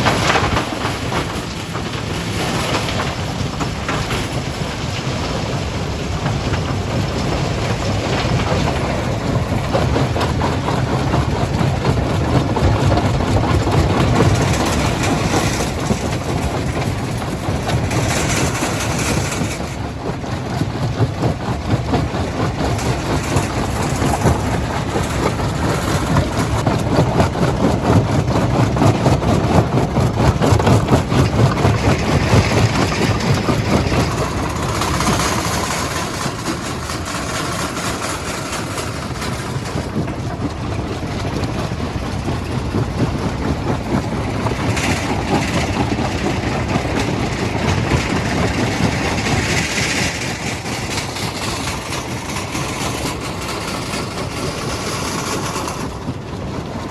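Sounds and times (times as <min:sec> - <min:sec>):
stone crusher machinery rattling: 0:00.0 - 0:56.9.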